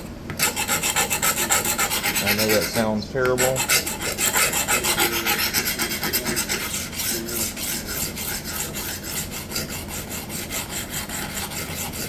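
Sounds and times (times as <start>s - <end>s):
knife grinding on sharpening plate: 0.0s - 12.0s.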